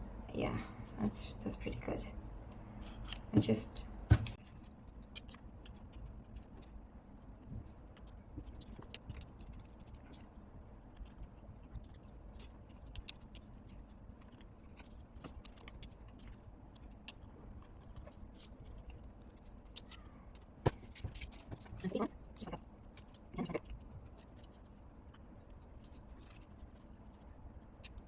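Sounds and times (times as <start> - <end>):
paper labels crinkling: 4.3 - 28.0.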